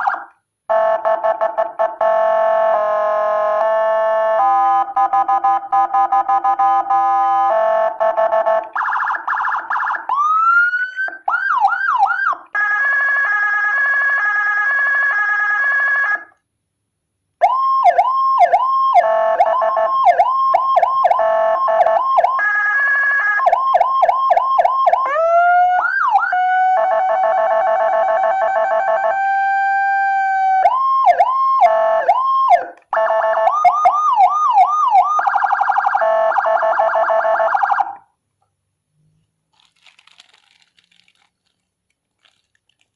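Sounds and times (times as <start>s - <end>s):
electronic siren cycling tones: 0.0s - 16.2s, 17.4s - 38.0s.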